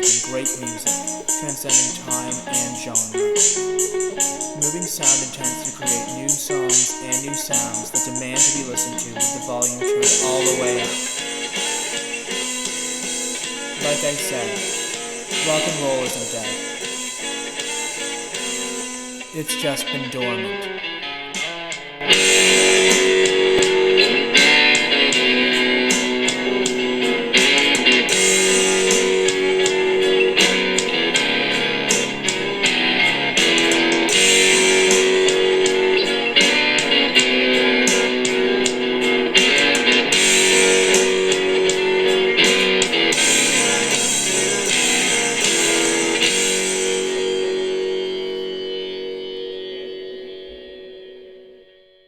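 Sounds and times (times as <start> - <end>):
rock and roll electric guitar music: 0.0 - 51.8.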